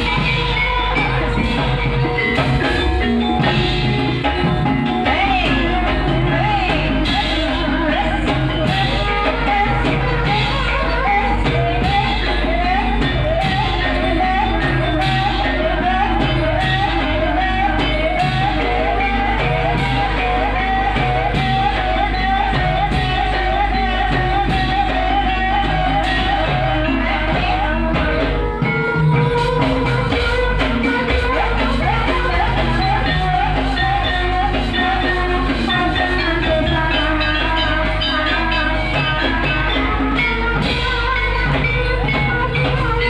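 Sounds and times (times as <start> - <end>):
person singing wavering melody: 0.0 - 43.0
steady percussion: 0.0 - 43.0.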